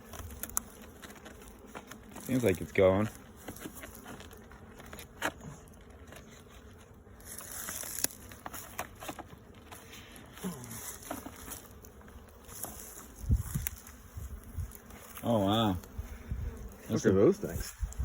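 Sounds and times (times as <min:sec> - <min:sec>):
hive parts clicking and scraping: 0:00.0 - 0:18.0
honeybees buzzing: 0:00.0 - 0:18.0.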